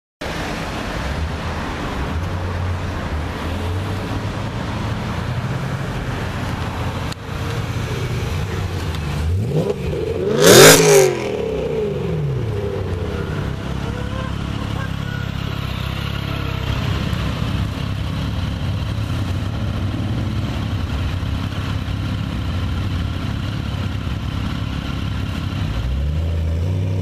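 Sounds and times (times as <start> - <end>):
car engine revving: 3.4 - 27.0.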